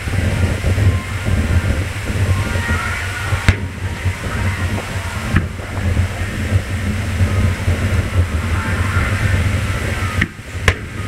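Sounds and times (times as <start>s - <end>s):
fireworks sharp bang: 0.0s - 11.0s
low rumble of fireworks booms: 0.0s - 11.0s.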